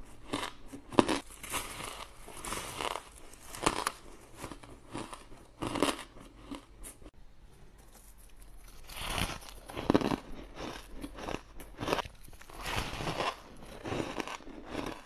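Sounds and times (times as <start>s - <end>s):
ice being chewed: 0.0s - 7.1s, 8.0s - 15.0s.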